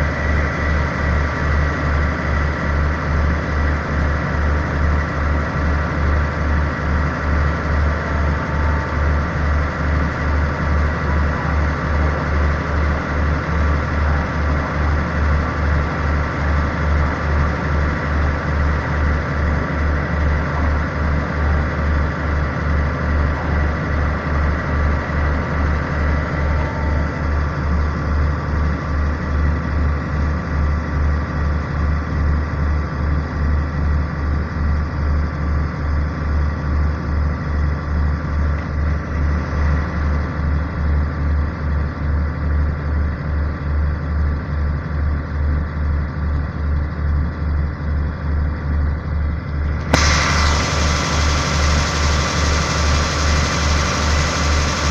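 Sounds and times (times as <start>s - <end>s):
train diesel engine idling: 0.0s - 54.9s.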